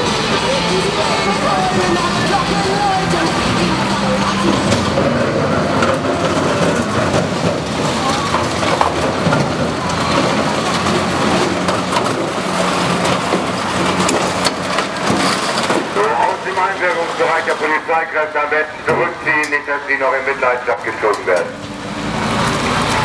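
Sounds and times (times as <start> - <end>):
metal crunching and scraping: 0.0 - 23.0
vehicle engine running: 0.0 - 23.0.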